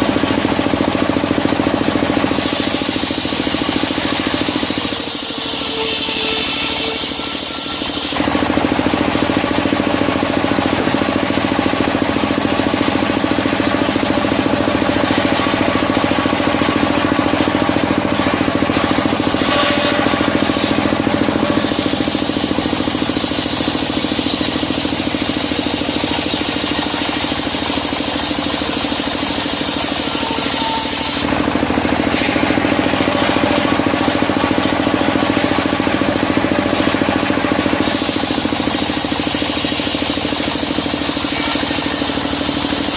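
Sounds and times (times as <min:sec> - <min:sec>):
circular sawmill sawing timber: 0:00.0 - 0:42.9.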